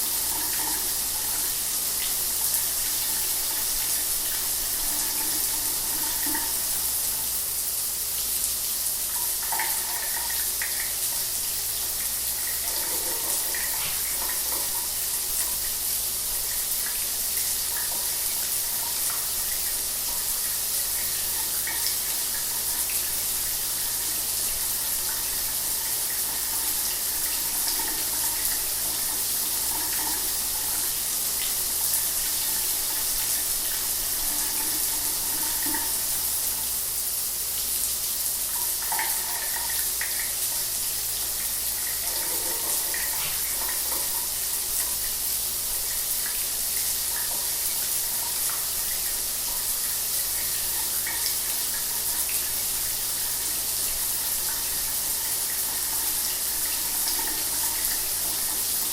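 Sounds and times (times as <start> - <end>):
shower water spraying: 0.0 - 58.9.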